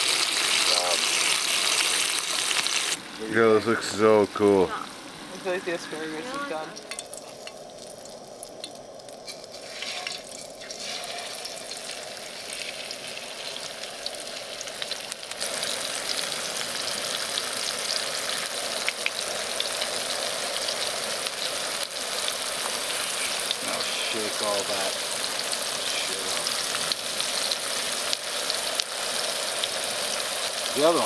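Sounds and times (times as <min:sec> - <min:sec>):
fish frying in hot oil: 0:00.0 - 0:03.0, 0:05.4 - 0:31.0.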